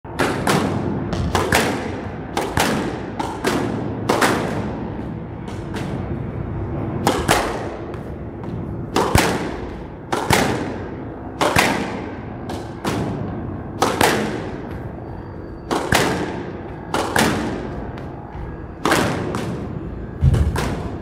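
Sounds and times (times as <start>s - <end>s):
racket hitting squash ball: 0.1s - 21.0s
ball striking court walls: 0.2s - 6.3s, 7.0s - 15.0s, 15.7s - 21.0s.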